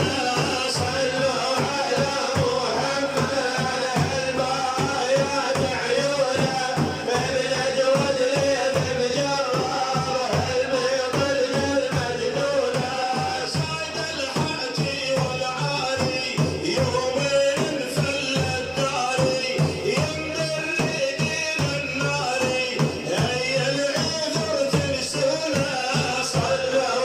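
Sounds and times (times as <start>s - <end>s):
drum beats: 0.0s - 27.0s
man singing a devotional chant: 0.0s - 27.0s.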